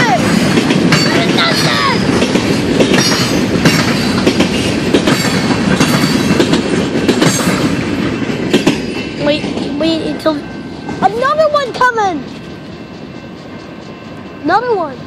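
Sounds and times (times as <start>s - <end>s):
freight train rumbling past: 0.0s - 15.0s
train wheels clattering: 0.0s - 15.0s.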